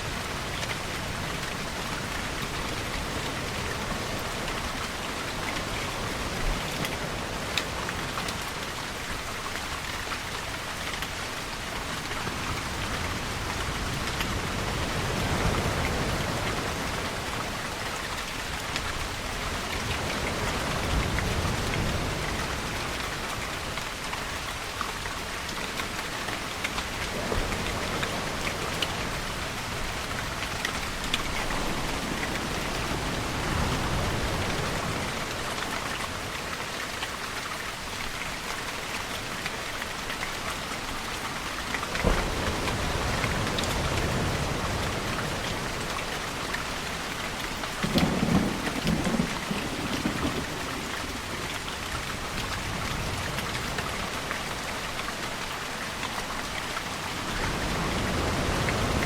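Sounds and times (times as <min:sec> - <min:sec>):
heavy rain pattering: 0:00.0 - 0:59.0
ocean waves: 0:00.0 - 0:59.0.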